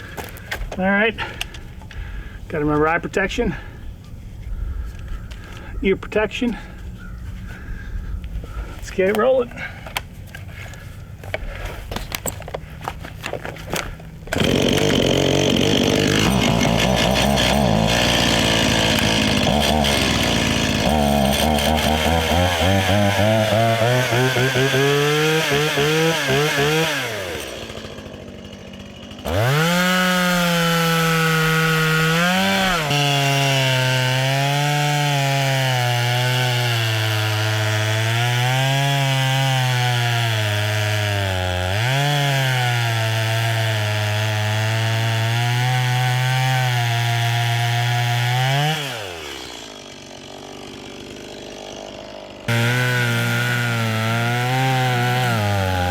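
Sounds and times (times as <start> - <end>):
chainsaw cutting wood: 9.0 - 55.9.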